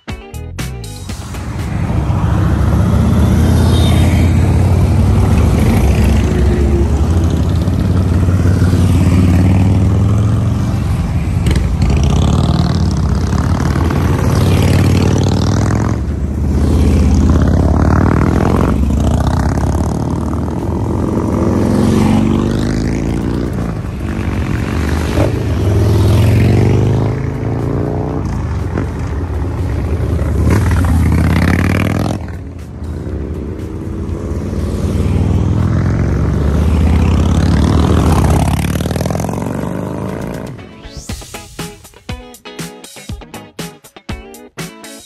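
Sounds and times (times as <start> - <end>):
vehicles passing: 0.7 - 42.1
motorcycle engine revving: 1.9 - 40.6.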